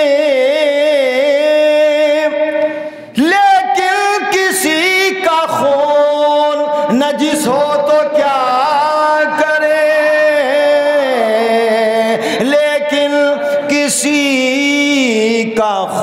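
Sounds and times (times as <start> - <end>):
man reciting verses in melodic style: 0.0 - 16.0.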